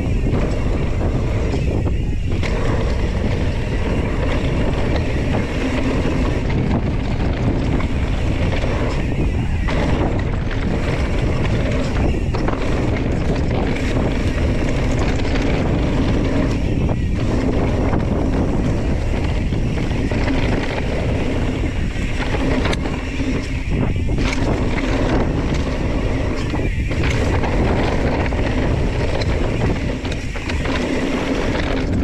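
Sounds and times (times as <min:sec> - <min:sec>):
bike rattling: 0:00.0 - 0:32.0
bike tyres on dirt trail: 0:00.0 - 0:32.0
wind buffeting microphone: 0:00.0 - 0:32.0.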